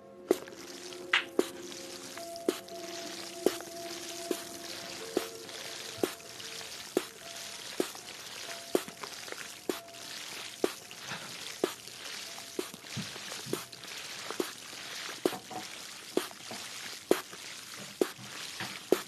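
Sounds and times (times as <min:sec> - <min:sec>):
water trickling: 0:00.3 - 0:19.0.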